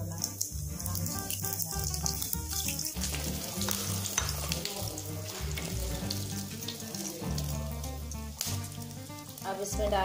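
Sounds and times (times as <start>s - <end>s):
background music: 0.0s - 10.0s
spices sizzling in hot oil: 0.0s - 10.0s.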